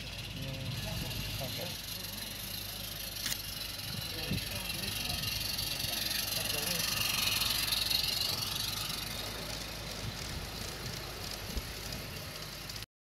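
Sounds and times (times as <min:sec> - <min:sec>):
steam locomotive hissing: 0:00.0 - 0:12.8.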